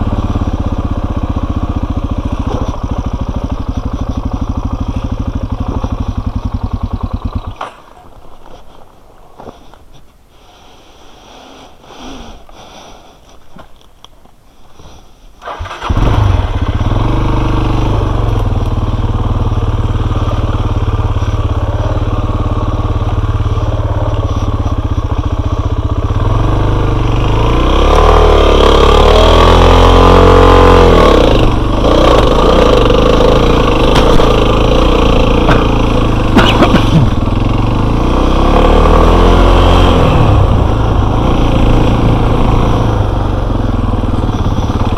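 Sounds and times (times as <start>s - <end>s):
motorcycle engine starting and running: 0.0s - 9.8s, 15.4s - 44.9s.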